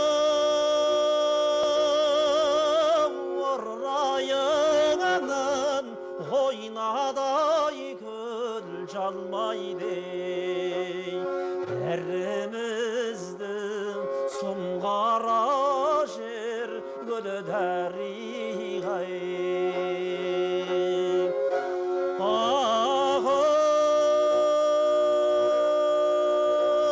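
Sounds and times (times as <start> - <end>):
bowed string sliding melody: 0.0 - 26.9.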